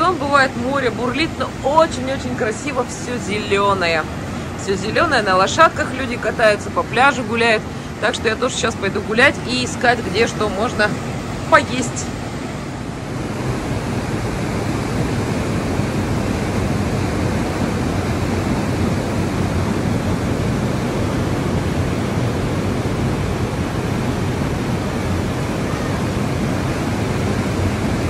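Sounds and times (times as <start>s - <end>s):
breaking surf: 0.0s - 28.0s.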